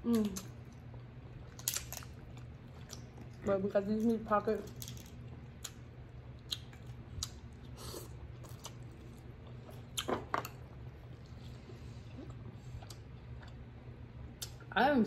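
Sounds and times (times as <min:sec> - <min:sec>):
chewing crab meat: 0:00.0 - 0:14.6.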